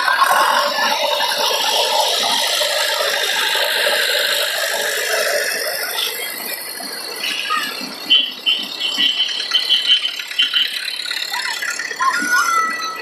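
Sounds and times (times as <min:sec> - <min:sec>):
tractor engine rattling: 0:00.0 - 0:13.0.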